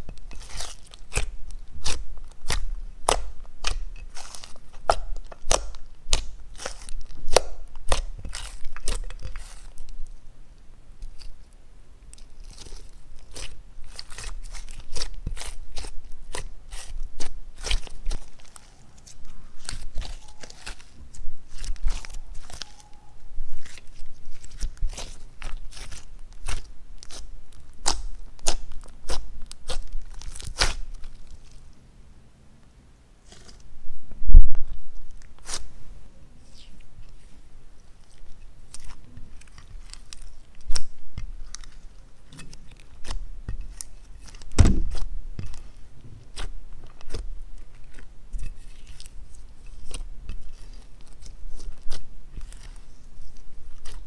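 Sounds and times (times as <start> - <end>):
slime squishing with sticky pops: 0.0 - 10.2, 11.0 - 31.6, 34.6 - 35.7, 36.5 - 54.0.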